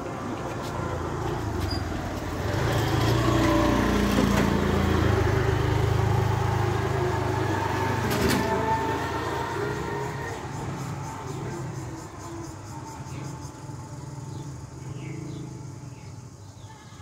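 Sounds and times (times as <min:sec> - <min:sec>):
engine humming: 0:00.0 - 0:16.4.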